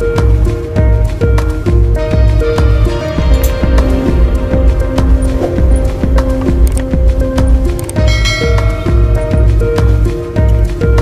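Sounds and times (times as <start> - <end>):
background music with heavy bass: 0.0 - 11.0.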